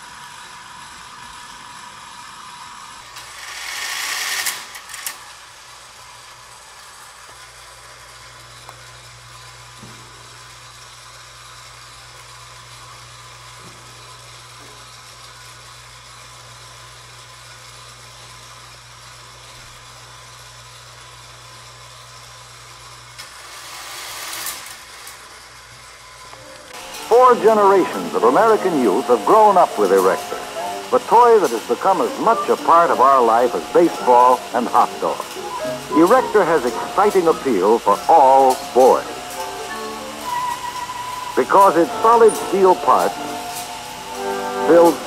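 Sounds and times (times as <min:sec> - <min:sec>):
small electric motor humming: 0:00.0 - 0:18.2, 0:20.9 - 0:45.0.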